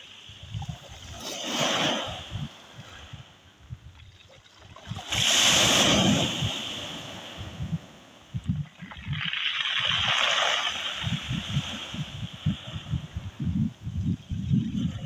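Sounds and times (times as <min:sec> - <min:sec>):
sea waves washing onto shore: 0:00.0 - 0:03.6, 0:04.3 - 0:15.0.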